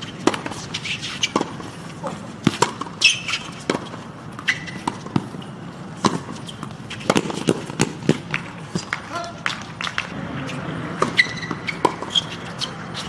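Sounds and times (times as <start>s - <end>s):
sneaker squeak: 0.0s - 8.9s, 10.1s - 13.0s
racket hitting tennis ball: 0.0s - 13.0s
tennis ball bouncing: 0.0s - 13.0s.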